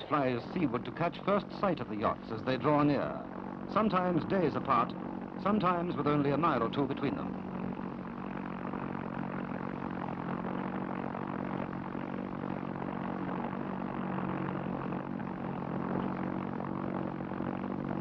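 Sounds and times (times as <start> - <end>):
propeller aircraft engine: 0.0 - 18.0.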